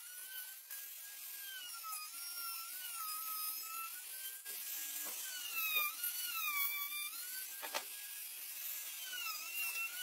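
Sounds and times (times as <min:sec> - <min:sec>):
trim router whining: 0:00.0 - 0:10.0.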